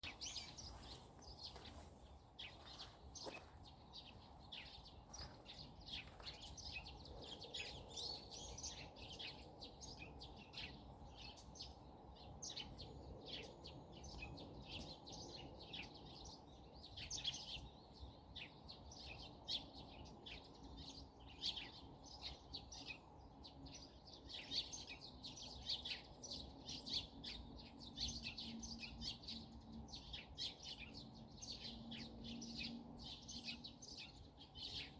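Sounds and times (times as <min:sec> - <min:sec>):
songbirds chirping and twittering: 0:00.0 - 0:34.9.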